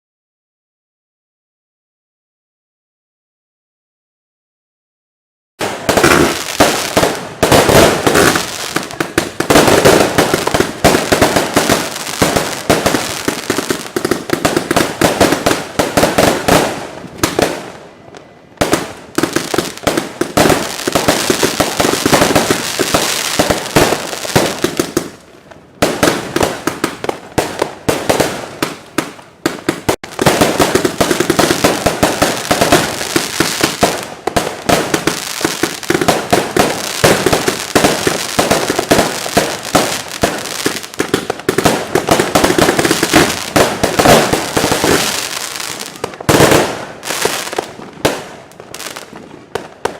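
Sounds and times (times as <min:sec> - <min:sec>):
fireworks and firecrackers banging: 0:05.6 - 0:49.9.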